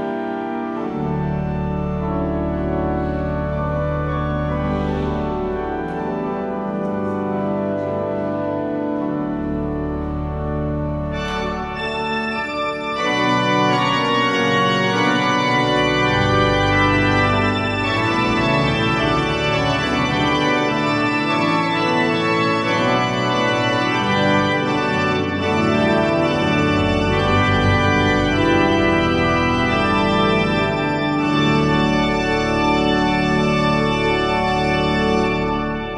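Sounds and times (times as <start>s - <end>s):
pipe organ chords: 0.0s - 35.9s.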